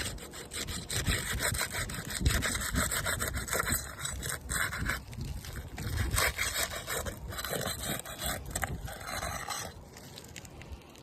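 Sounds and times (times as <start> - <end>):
tool scraping roof shingles: 0.0 - 10.4.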